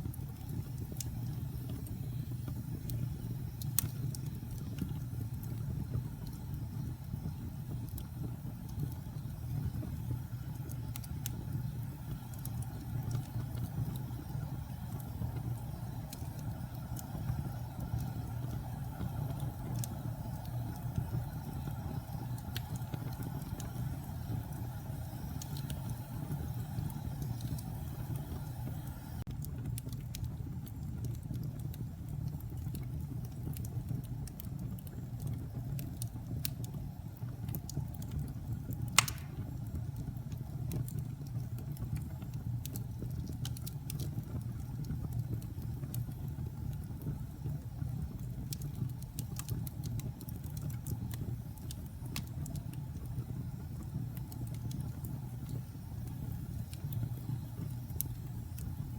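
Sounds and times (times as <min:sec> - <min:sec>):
fire popping: 0:00.0 - 0:58.9
wood fire crackling: 0:00.0 - 0:58.9.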